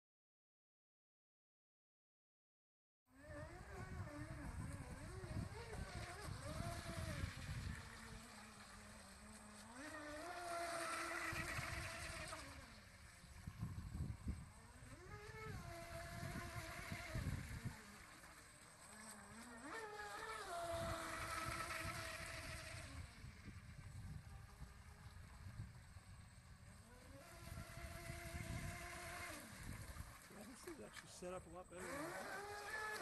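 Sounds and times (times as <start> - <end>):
electric boat motor whining: 3.1 - 33.0.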